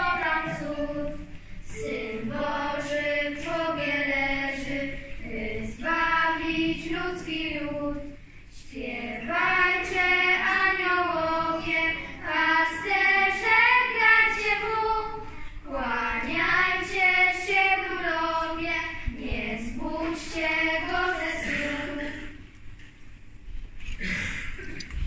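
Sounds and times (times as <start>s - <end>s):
children singing a carol: 0.0s - 22.4s.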